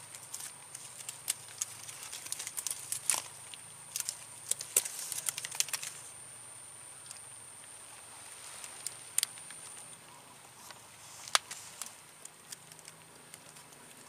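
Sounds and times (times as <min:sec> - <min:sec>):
twigs and leaves crackling: 0:00.0 - 0:06.2, 0:07.0 - 0:14.0.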